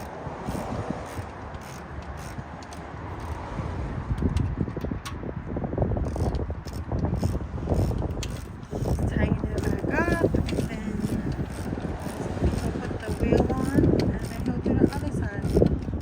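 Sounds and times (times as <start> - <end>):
socket ratchet clicking: 0.0 - 3.4, 6.0 - 16.0
low rumbling handling noise: 0.0 - 16.0.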